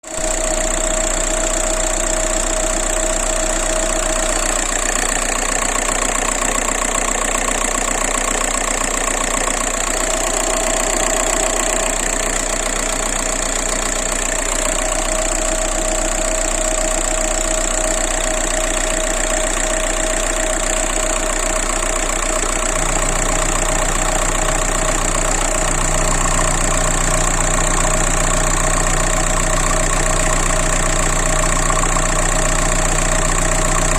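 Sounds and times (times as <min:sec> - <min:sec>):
diesel engine idling with knock: 0:00.0 - 0:33.9.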